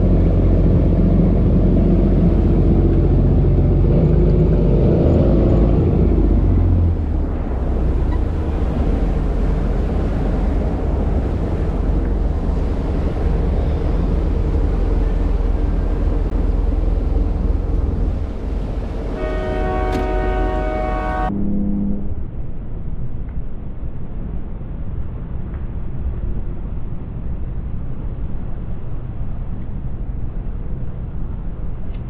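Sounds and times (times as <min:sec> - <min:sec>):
boat engine low rumble: 0:00.0 - 0:32.0.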